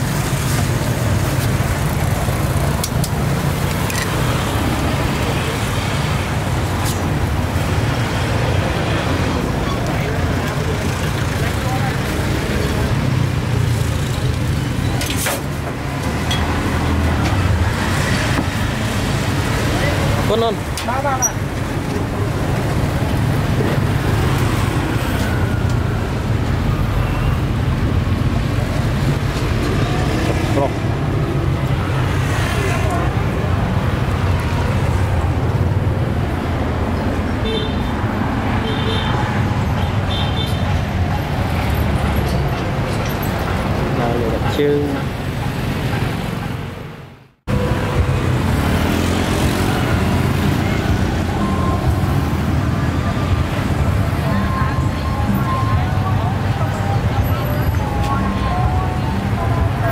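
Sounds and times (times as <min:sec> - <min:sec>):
street traffic noise: 0:00.0 - 0:59.9
vehicle engine rumbling: 0:00.0 - 0:59.9.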